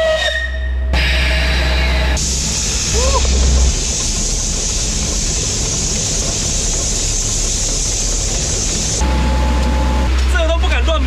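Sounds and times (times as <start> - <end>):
low rumble: 0.6 - 10.7
steam locomotive hissing: 1.0 - 10.9.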